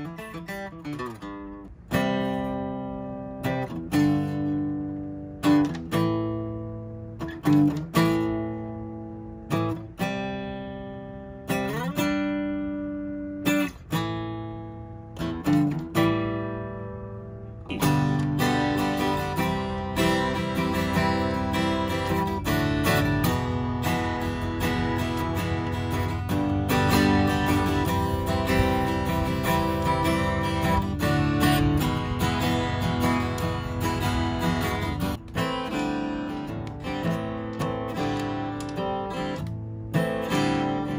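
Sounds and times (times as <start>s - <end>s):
acoustic guitar strumming chords: 0.0s - 40.9s.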